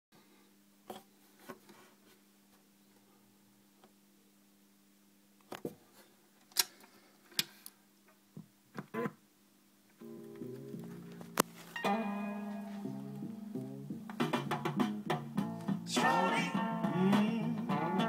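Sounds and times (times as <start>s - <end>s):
faint steady hum: 0.2s - 18.0s.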